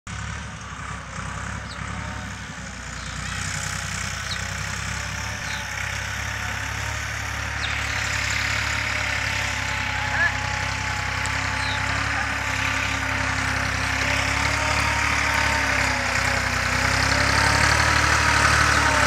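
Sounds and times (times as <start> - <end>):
low engine hum: 0.1 - 19.0.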